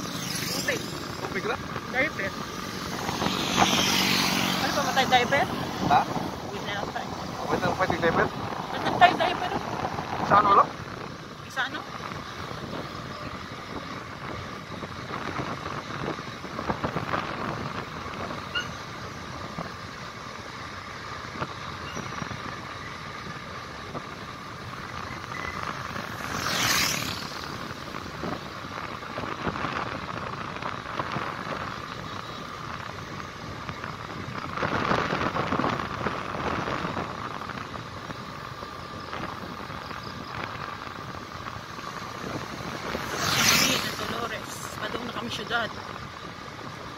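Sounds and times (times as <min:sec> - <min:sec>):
road and traffic noise: 0:00.0 - 0:46.9.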